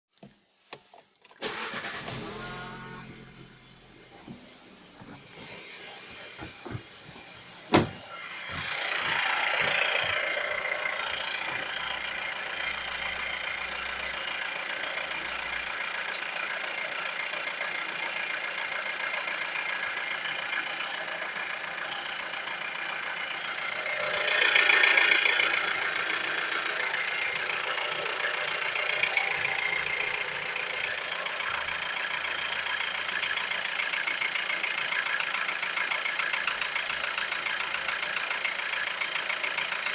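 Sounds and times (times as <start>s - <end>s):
car engine idling and revving: 0.2s - 39.9s.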